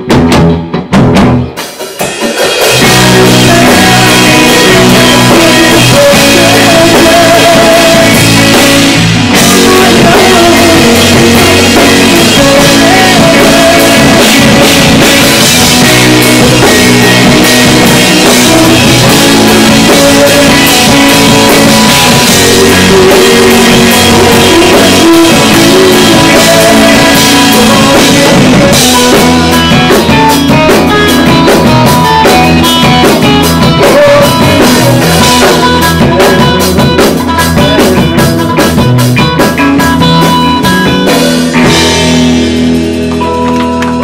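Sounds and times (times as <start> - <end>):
drum hits: 0.0 - 39.8
live rock band playing: 0.0 - 44.0.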